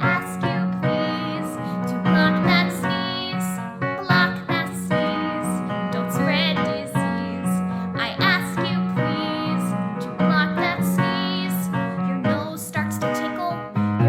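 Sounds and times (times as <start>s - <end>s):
person singing with vibrato: 0.0s - 13.7s
instrumental backing: 0.0s - 14.0s.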